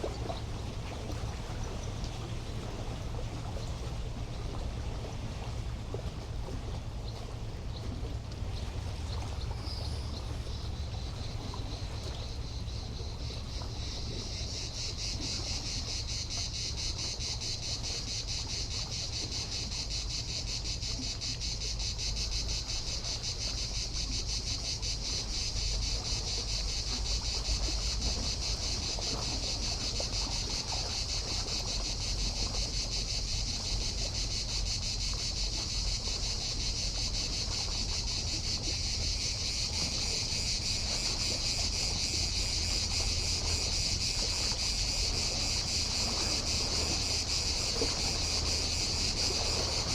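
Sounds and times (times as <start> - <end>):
cicadas buzzing chorus: 0.0 - 49.9.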